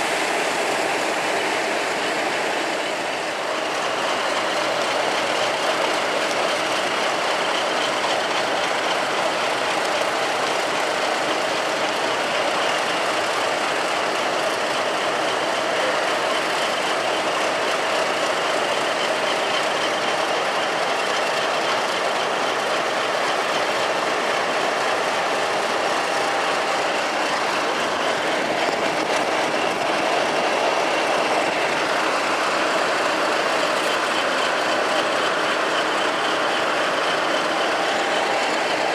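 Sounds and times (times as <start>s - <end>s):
diesel train engine running: 0.0s - 38.9s.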